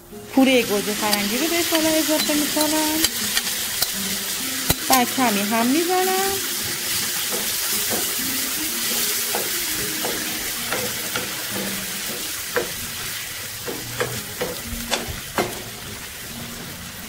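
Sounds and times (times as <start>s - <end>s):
food sizzling in frying pan: 0.0s - 17.0s
spatula knocking and scraping pan: 0.7s - 16.1s.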